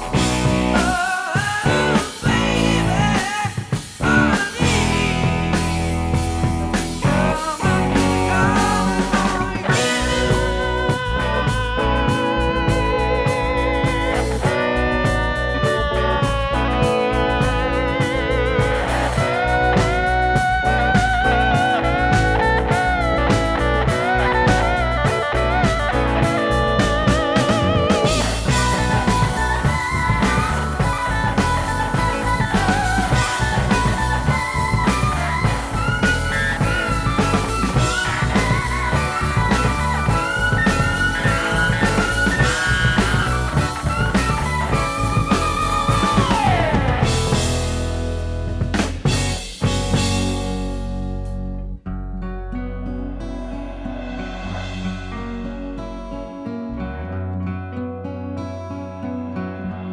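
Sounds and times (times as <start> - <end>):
bass and drums: 0.0 - 57.2
wavering lead guitar: 0.0 - 59.9.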